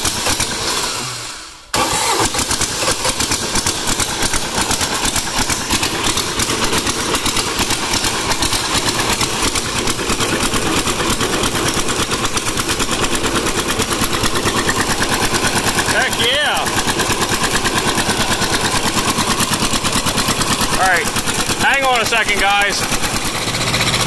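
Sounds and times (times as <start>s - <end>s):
small diesel engine running: 0.0s - 24.0s.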